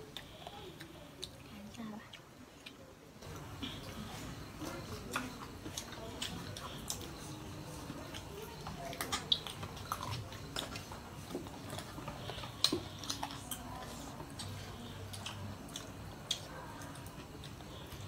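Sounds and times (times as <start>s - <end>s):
wet chewing smacks: 0.0s - 18.0s.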